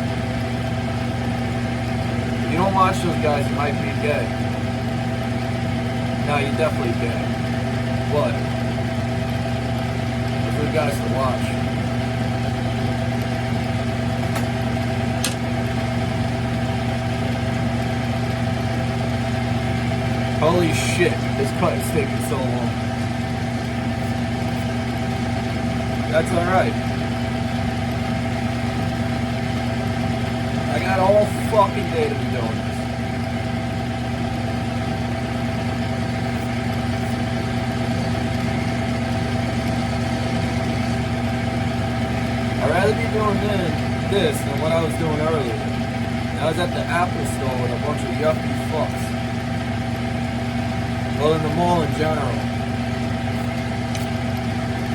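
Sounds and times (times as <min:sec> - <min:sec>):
lathe motor and gear hum: 0:00.0 - 0:54.9.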